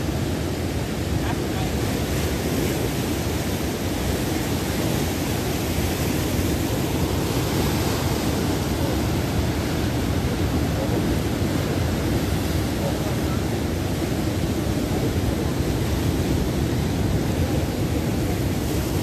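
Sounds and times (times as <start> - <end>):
ocean surf breaking on rocks: 0.0 - 19.0.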